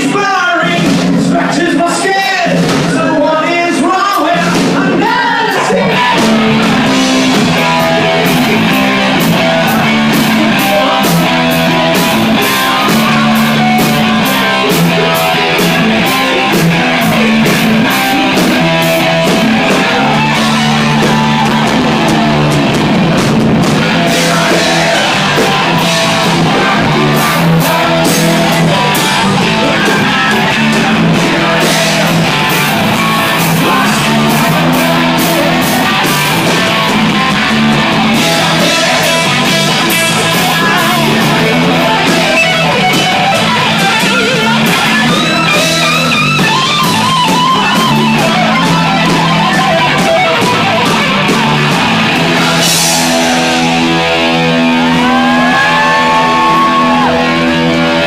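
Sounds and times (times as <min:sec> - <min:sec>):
bass guitar: 0:00.0 - 0:58.0
distorted electric guitar: 0:00.0 - 0:58.0
drums keeping steady beat: 0:00.0 - 0:58.0.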